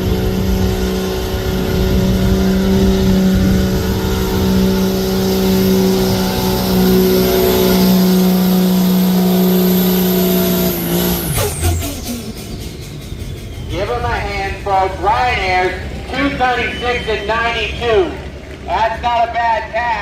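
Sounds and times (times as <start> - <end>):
diesel engine at high revs: 0.0 - 20.0
high whine: 0.0 - 20.0.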